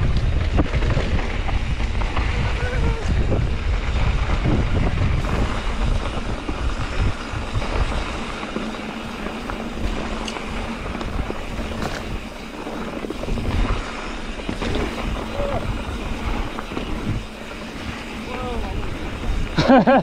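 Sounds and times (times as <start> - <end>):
sharp ticks and rattles: 0.0 - 20.0
tyres rumbling on dirt: 0.0 - 20.0
wind rushing over microphone: 0.0 - 20.0.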